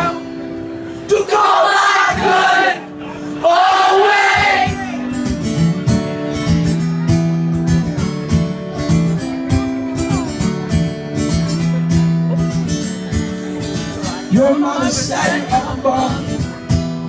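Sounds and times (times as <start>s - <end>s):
acoustic guitar strumming chords: 2.0s - 17.0s.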